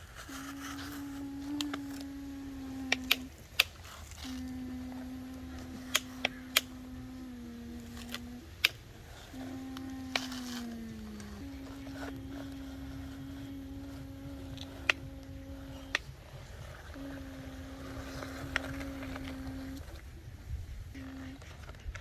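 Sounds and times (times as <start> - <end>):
small electric motor whining: 0.0 - 20.2.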